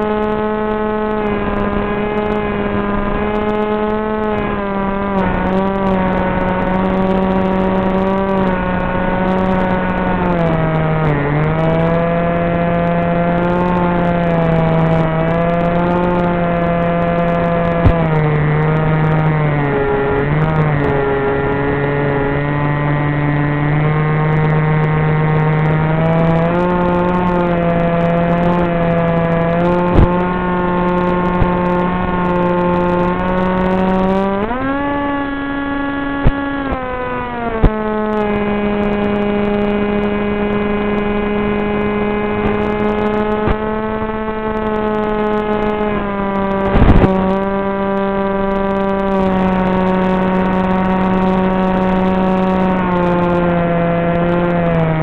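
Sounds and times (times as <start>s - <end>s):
drone motor whining in flight: 0.0s - 55.0s.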